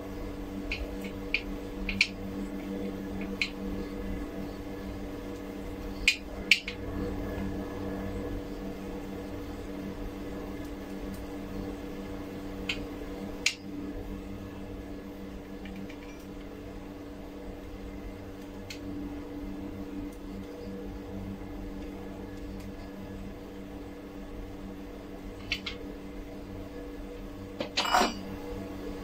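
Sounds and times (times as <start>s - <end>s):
low machinery hum: 0.0s - 29.0s.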